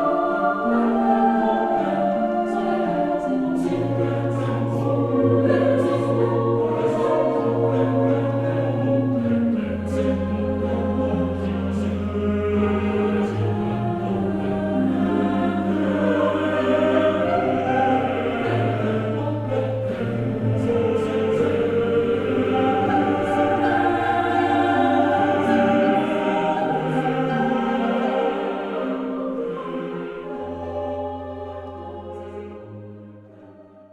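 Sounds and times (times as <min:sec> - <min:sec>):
choir-like vocal music: 0:00.0 - 0:33.9.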